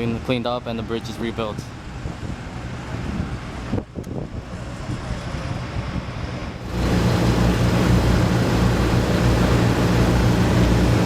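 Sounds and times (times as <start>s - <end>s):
road traffic: 0.0s - 11.0s
wind on microphone: 1.1s - 11.0s
steady low rumble: 1.7s - 11.0s.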